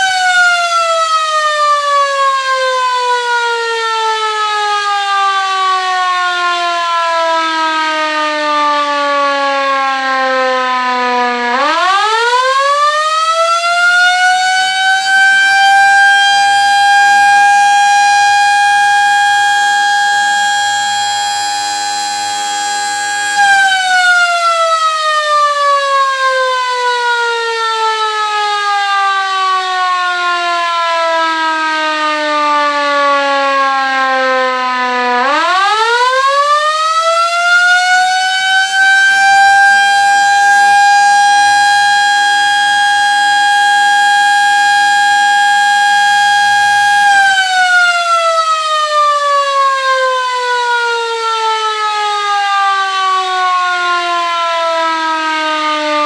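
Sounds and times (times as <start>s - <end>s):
electric motor siren: 0.0s - 56.0s.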